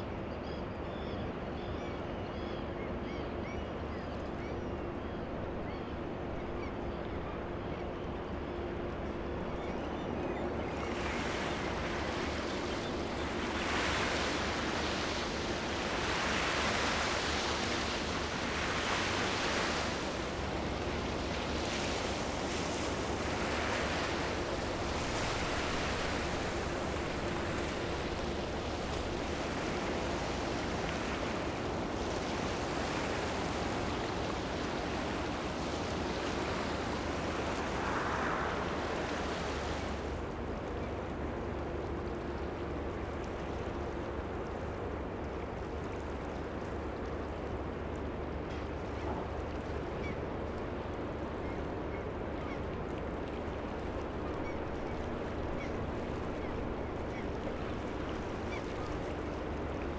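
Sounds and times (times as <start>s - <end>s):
wind: 0.0s - 59.9s.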